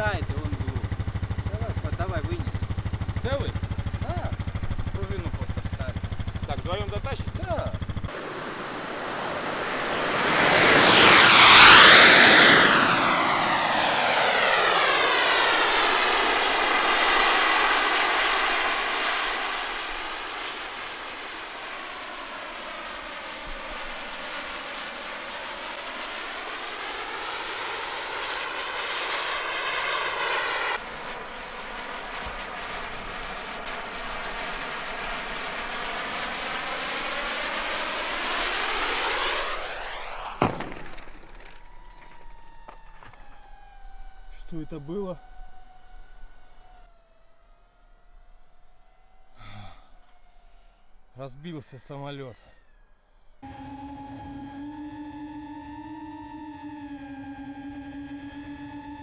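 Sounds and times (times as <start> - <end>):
model jet turbine whine: 0.0 - 59.0.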